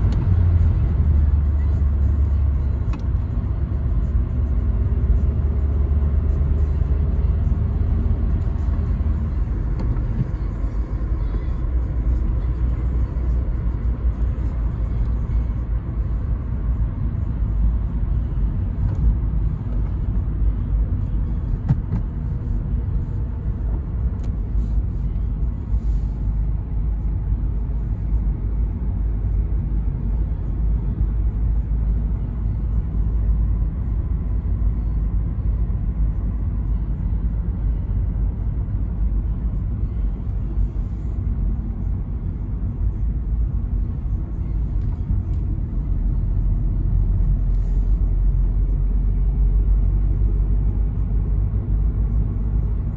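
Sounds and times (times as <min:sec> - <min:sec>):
car engine running: 0:00.0 - 0:52.9
road noise: 0:00.0 - 0:52.9.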